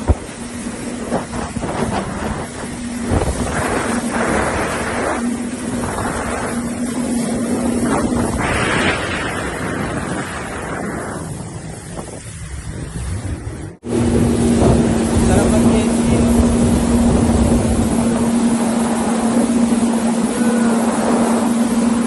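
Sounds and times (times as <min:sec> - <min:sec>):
jet ski engine running: 0:00.0 - 0:22.0
wind and water spray noise: 0:00.0 - 0:22.0.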